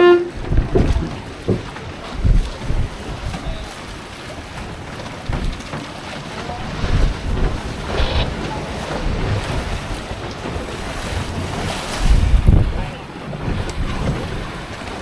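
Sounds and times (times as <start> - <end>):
wind buffeting microphone: 0.3 - 15.0.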